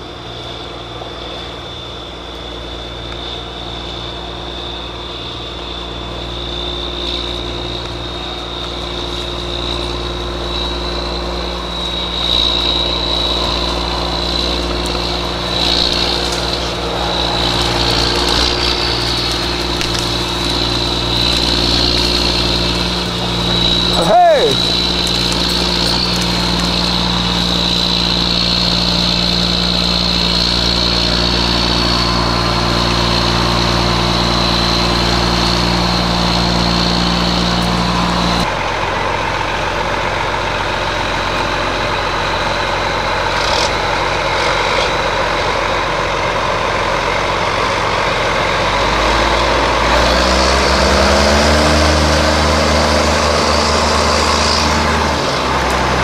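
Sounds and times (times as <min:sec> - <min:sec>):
tractor diesel engine whining: 0:00.0 - 0:56.0.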